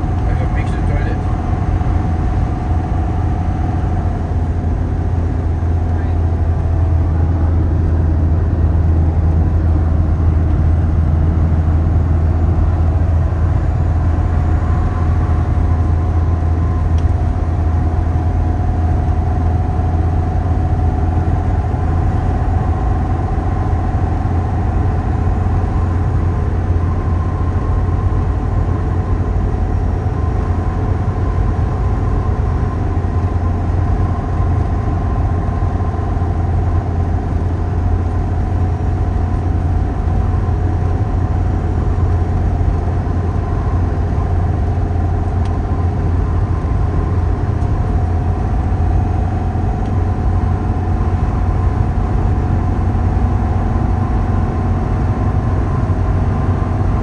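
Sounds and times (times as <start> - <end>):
faint even whine: 0.0 - 57.0
tyre and engine rumble: 0.0 - 57.0.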